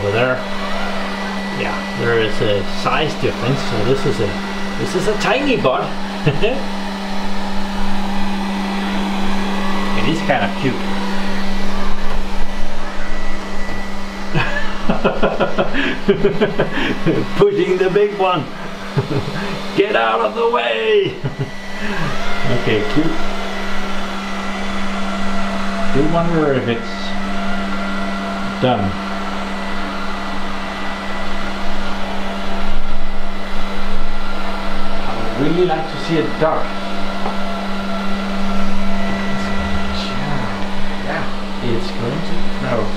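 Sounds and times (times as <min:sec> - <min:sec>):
robot vacuum running: 0:00.0 - 0:42.9.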